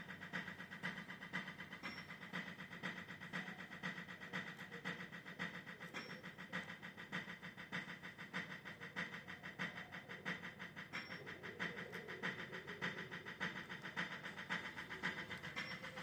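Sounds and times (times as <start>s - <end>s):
electronic drum beat: 0.0s - 16.0s.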